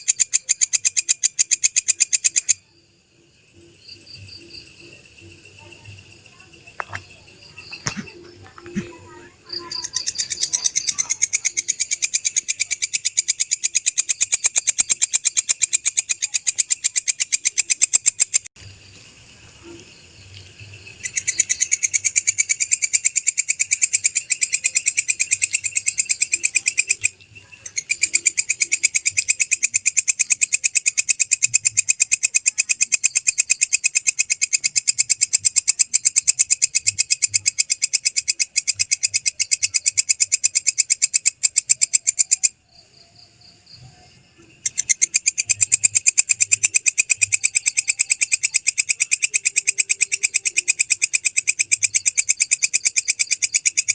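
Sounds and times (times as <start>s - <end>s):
grasshopper chirping: 0.0s - 53.9s.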